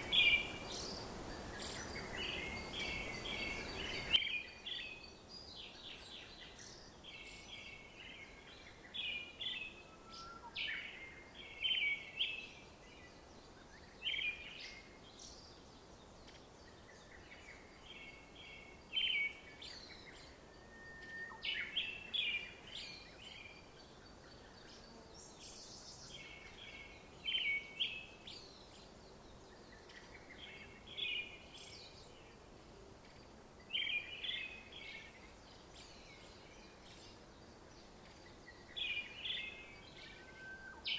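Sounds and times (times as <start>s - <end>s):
faint outdoor hiss: 0.0s - 40.9s
songbirds chirping: 0.0s - 40.9s.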